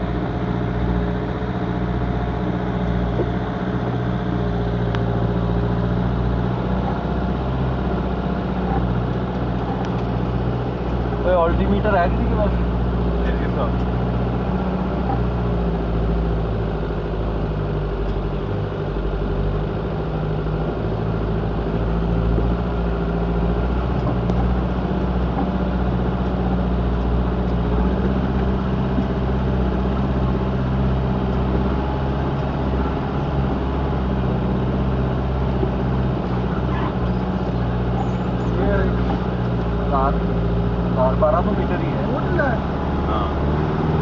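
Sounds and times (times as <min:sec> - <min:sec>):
vehicle engine running at low revs: 0:00.0 - 0:44.0.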